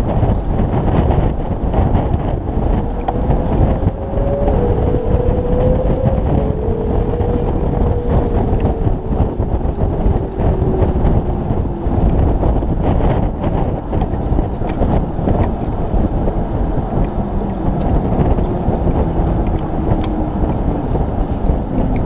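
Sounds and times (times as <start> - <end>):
heavy wind buffeting: 0.0 - 22.0.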